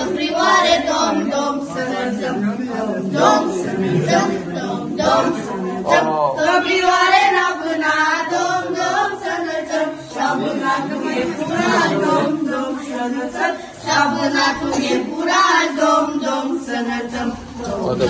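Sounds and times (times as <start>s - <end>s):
children singing a carol: 0.0s - 18.0s.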